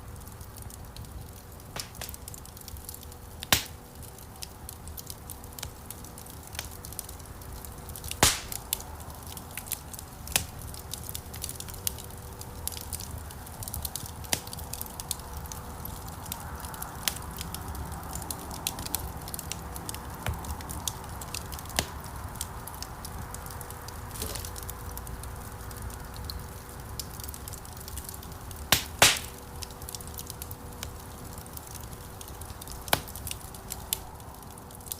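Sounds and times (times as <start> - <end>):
low rumble of burning logs: 0.0 - 34.9
wood fire crackling: 0.0 - 34.9.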